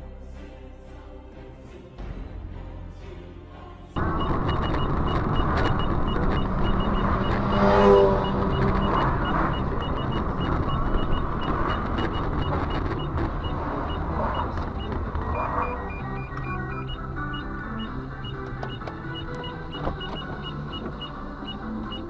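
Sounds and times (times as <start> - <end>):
car road and engine noise: 4.0 - 22.0
faint high beeps: 4.0 - 22.0
pitched tone: 4.0 - 22.0.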